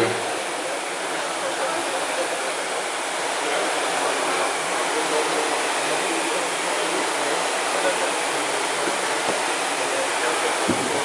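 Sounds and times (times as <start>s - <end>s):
rowing machine flywheels whirring: 0.0s - 11.0s.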